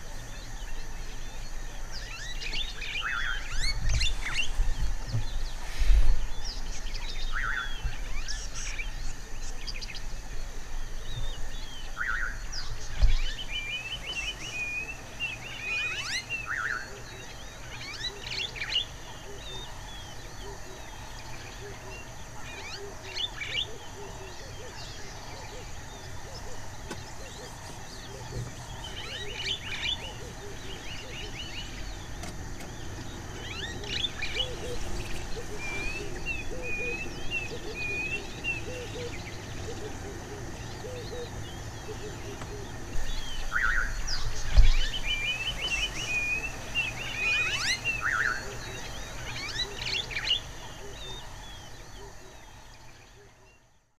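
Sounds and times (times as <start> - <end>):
birds chirping and singing: 0.0 - 53.9.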